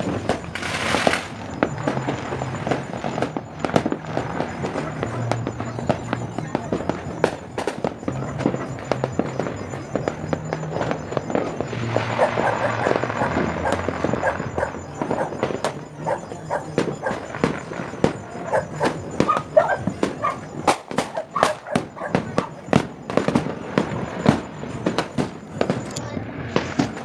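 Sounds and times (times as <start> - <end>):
firecrackers banging: 0.0 - 27.0.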